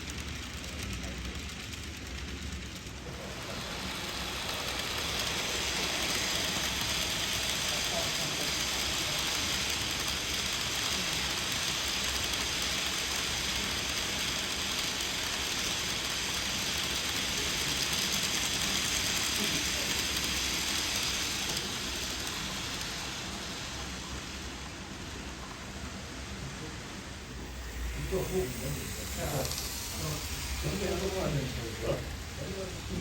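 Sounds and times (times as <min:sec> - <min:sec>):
model train running on track: 0:00.0 - 0:33.0.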